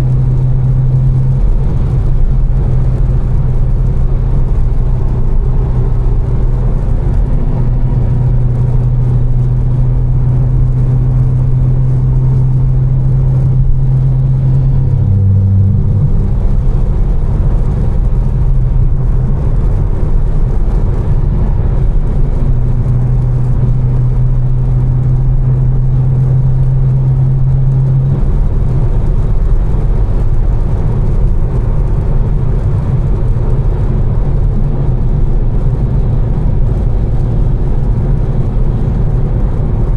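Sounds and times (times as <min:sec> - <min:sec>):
car engine cruising: 0:00.0 - 0:39.9
road noise: 0:00.0 - 0:39.9.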